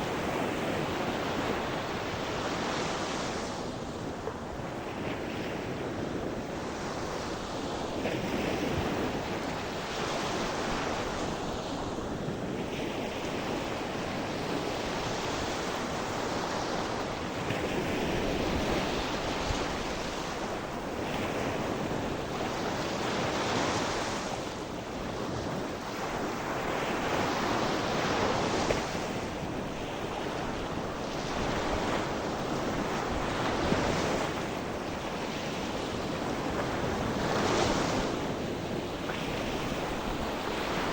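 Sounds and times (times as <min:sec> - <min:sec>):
sea waves washing on shore: 0:00.0 - 0:40.9.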